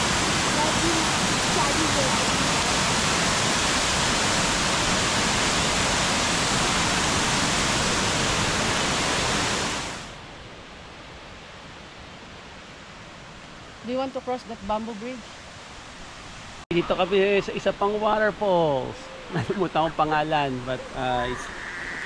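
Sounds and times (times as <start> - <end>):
waterfall rushing water: 0.0 - 10.3, 12.9 - 21.6.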